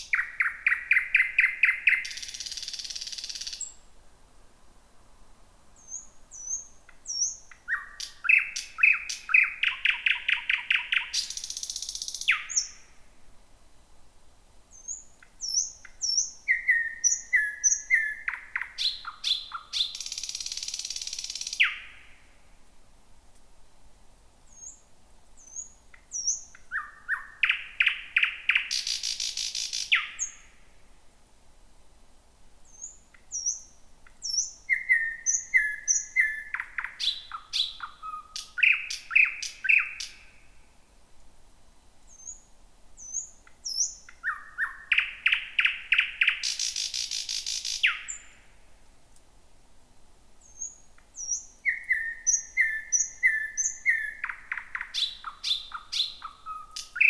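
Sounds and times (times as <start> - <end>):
nightingale singing: 0.0 - 3.9, 5.8 - 13.0, 14.7 - 22.3, 24.5 - 30.6, 32.6 - 40.6, 42.0 - 48.6, 50.4 - 57.0.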